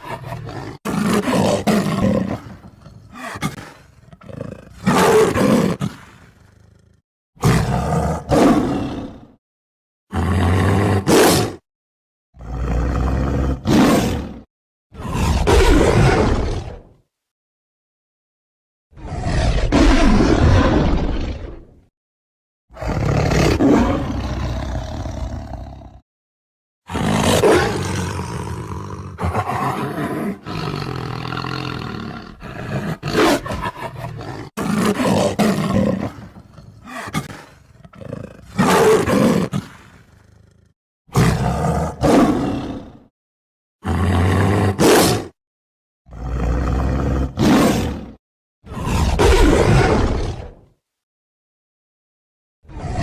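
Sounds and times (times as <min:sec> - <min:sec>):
tiger roaring and growling: 0:00.0 - 0:09.4, 0:10.1 - 0:11.6, 0:12.4 - 0:17.0, 0:18.9 - 0:21.9, 0:22.7 - 0:26.0, 0:26.9 - 0:43.1, 0:43.8 - 0:45.4, 0:46.1 - 0:50.7, 0:52.6 - 0:53.0.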